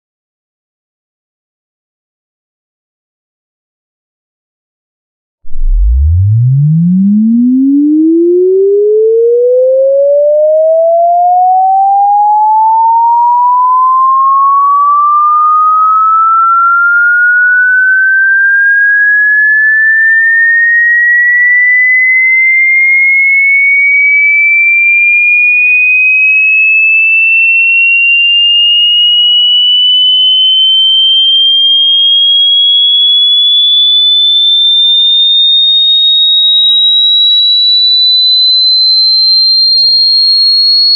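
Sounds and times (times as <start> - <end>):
electronic sine tone sweeping upward: 5.4 - 40.9.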